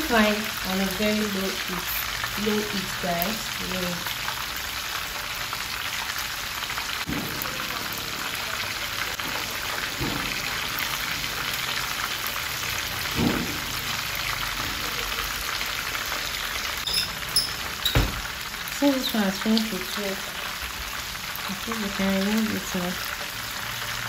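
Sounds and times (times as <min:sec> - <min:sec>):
fish sizzling in oil: 0:00.0 - 0:24.0.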